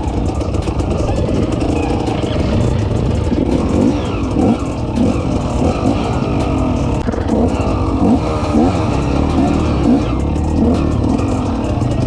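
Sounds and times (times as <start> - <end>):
off-road vehicle engine revving: 0.0 - 12.0
small clicks and rattles: 0.0 - 12.0.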